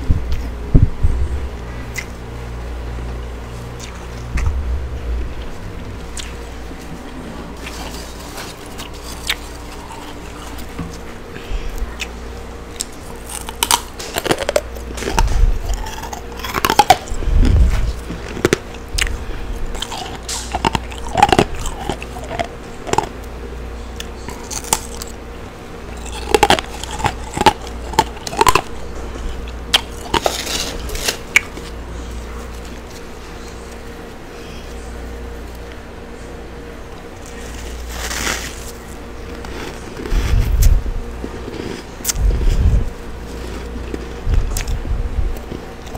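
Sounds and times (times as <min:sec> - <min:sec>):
steady low hum: 0:00.0 - 0:45.9
crunchy chewing of frost: 0:03.2 - 0:04.6, 0:05.4 - 0:45.9.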